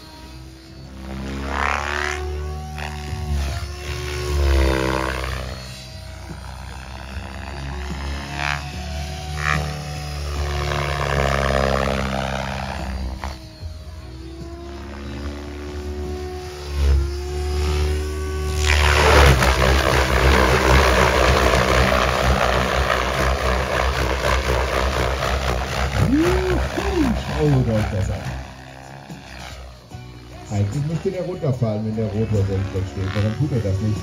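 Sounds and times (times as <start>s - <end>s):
rc helicopter rotor and motor whining: 0.0s - 34.0s.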